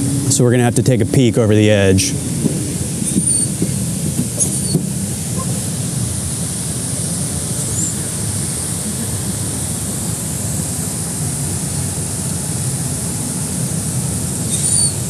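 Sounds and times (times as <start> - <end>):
outdoor rushing noise with rumble: 0.0 - 15.0.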